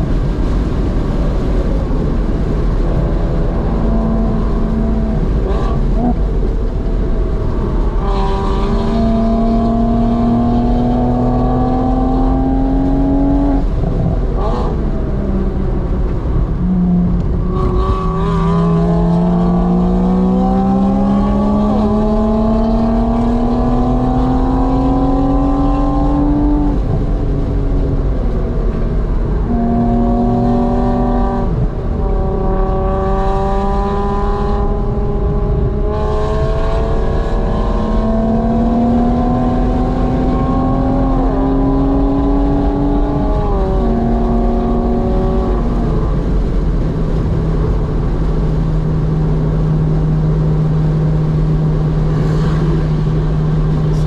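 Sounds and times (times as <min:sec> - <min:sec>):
car engine pulling hard: 0:00.0 - 0:54.0
road and wind noise: 0:00.0 - 0:54.0.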